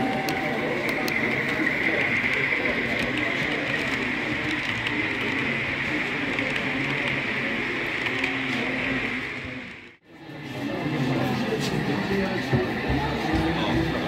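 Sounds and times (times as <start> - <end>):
model train high whine: 0.0 - 14.0
model train wheels on rails: 0.0 - 14.0.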